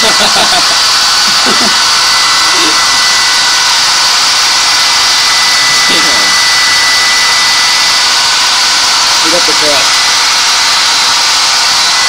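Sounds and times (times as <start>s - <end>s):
hair dryer blowing air: 0.0s - 12.0s
motor whine: 0.0s - 12.0s.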